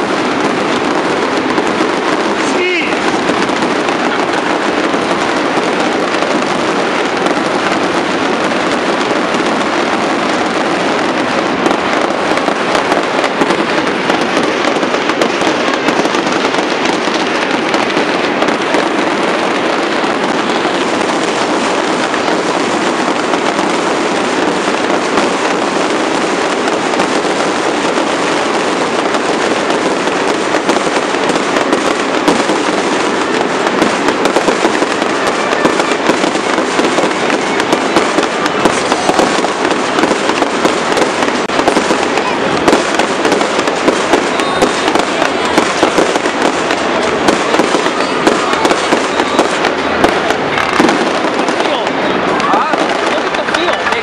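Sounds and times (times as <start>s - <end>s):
fireworks crackling hiss: 0.0s - 54.0s.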